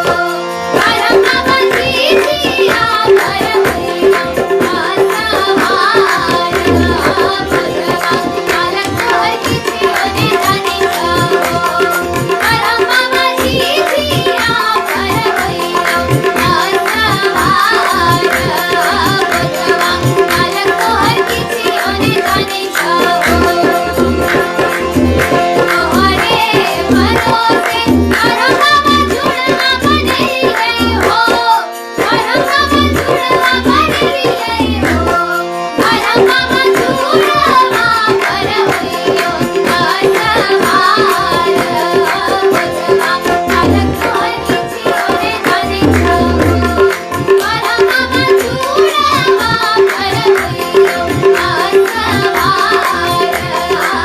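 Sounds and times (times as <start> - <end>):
folk song singing: 0.0 - 54.0
tabla drum rhythm: 0.0 - 54.0.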